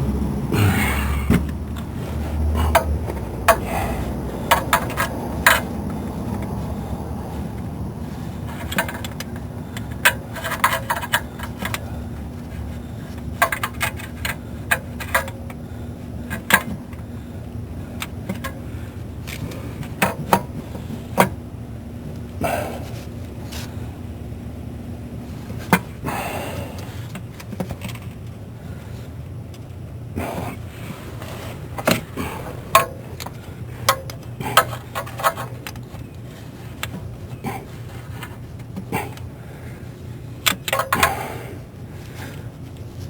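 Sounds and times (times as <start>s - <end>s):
low hum: 0.0s - 43.0s.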